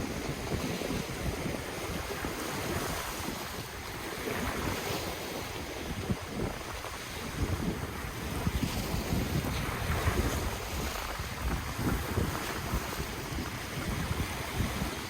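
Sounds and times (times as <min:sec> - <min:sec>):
ocean waves breaking on shore: 0:00.0 - 0:15.0
wind buffeting the microphone: 0:00.0 - 0:15.0.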